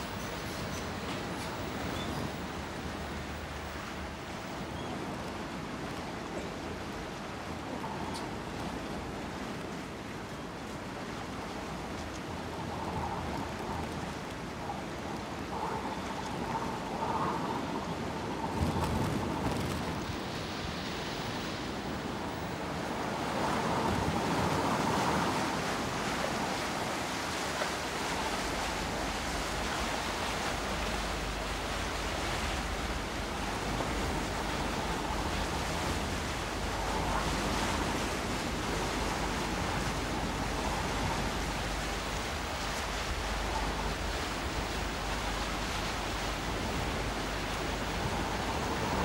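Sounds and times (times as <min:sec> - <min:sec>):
wind and sea rushing: 0:00.0 - 0:49.0.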